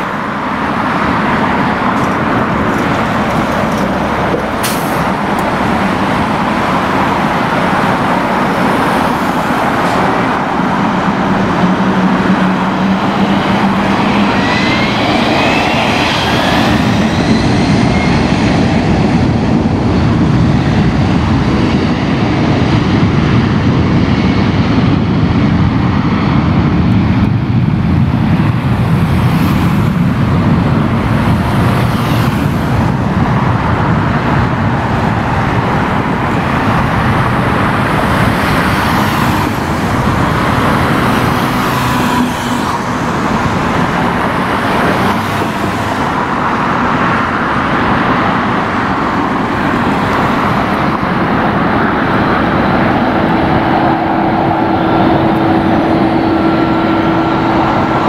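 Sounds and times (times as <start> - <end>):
road traffic noise: 0.0 - 58.0
vehicles passing: 0.0 - 58.0.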